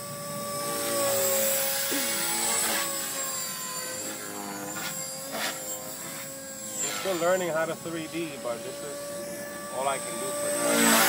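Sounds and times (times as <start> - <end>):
rc helicopter rotor whine: 0.0 - 11.0.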